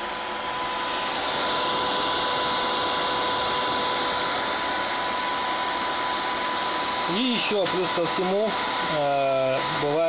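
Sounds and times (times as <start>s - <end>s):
cooling fan rush of air: 0.0s - 10.0s.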